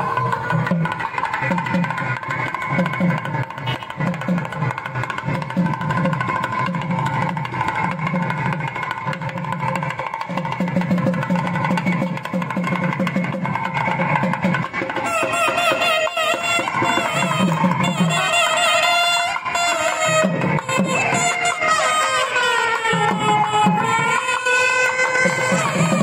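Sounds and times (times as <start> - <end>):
drums beating: 0.0 - 26.0.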